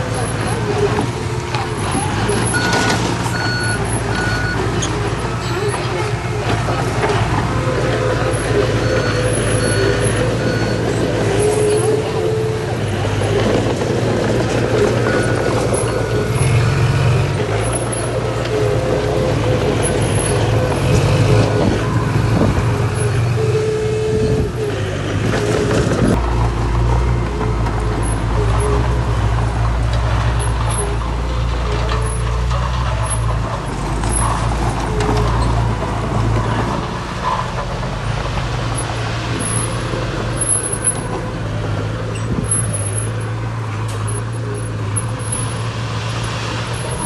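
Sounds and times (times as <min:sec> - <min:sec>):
heavy diesel machinery engine: 0:00.0 - 0:47.0
machinery clattering: 0:00.0 - 0:47.0.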